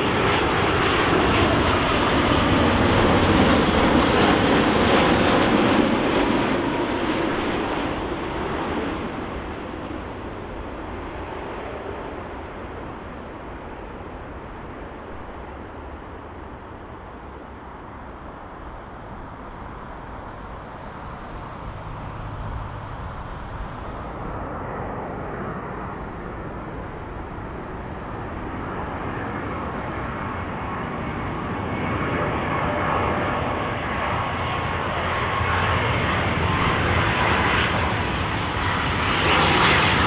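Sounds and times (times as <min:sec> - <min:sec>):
faint jet engine whine: 0:00.0 - 0:40.0
jet airliner engine rumble: 0:00.0 - 0:40.0.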